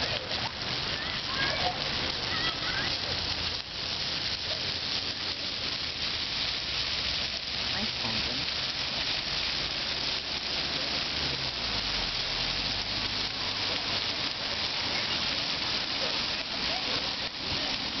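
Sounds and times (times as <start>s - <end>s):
fountain jets splashing on paving: 0.0s - 18.0s.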